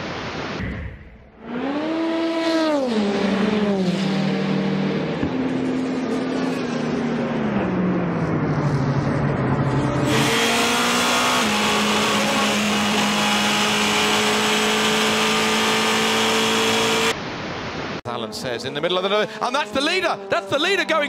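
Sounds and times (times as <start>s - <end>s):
race car engine: 0.6s - 17.2s, 18.1s - 21.0s.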